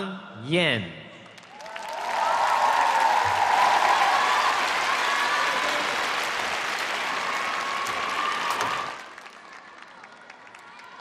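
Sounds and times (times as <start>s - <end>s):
crowd applauding and cheering: 1.2s - 11.0s.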